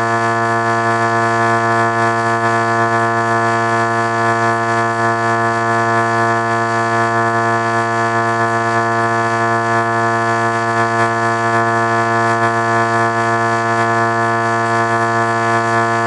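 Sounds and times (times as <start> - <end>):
sustained electronic chord drone: 0.0 - 16.0.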